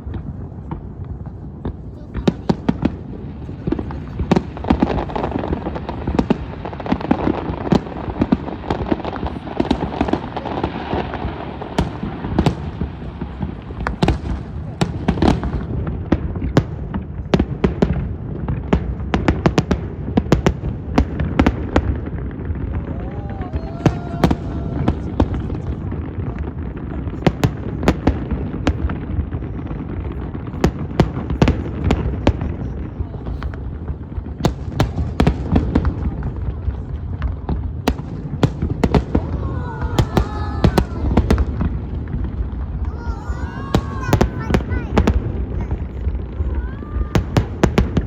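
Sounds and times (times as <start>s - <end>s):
fireworks bangs and crackles: 0.0s - 48.0s
crowd talking: 1.2s - 15.4s, 22.6s - 48.0s.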